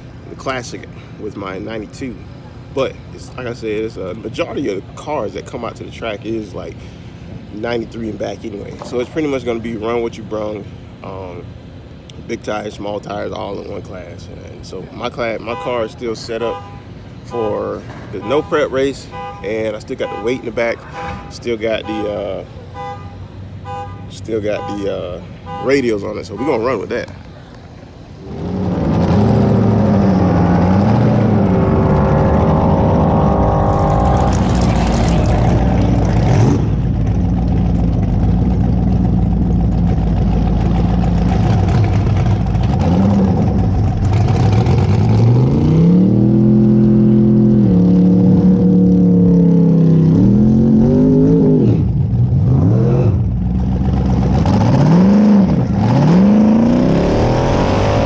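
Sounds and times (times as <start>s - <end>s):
car engine revving: 0.0s - 27.4s, 28.0s - 58.0s.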